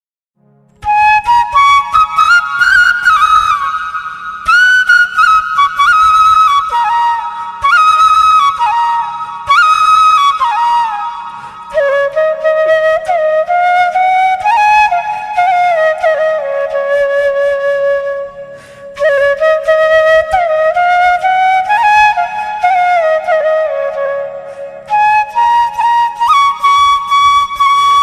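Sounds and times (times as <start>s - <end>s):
solo flute melody: 0.7s - 28.0s.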